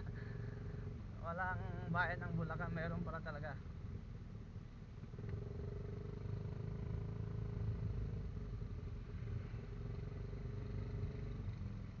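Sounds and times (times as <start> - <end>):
scooter engine hum with whine: 0.0 - 12.0.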